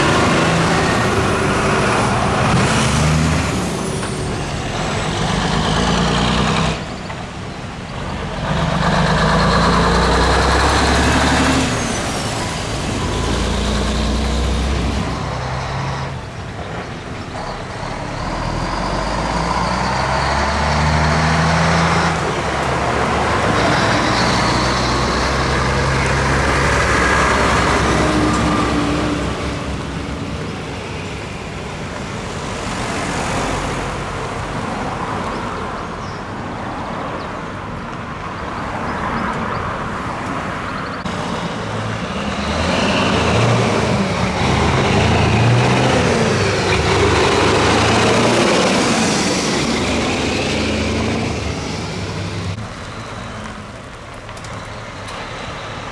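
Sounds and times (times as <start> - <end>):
heavy trucks driving past: 0.0 - 55.9
tyre and road noise: 0.0 - 55.9.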